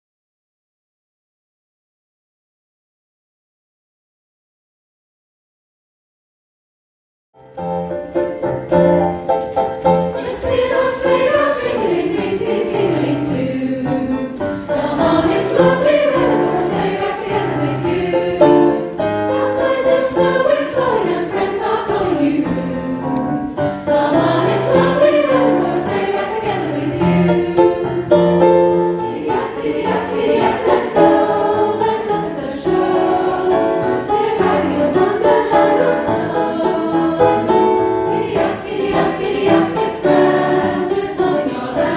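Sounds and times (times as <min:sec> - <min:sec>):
keyboard accompaniment: 0:07.4 - 0:41.9
choir singing: 0:07.7 - 0:41.9.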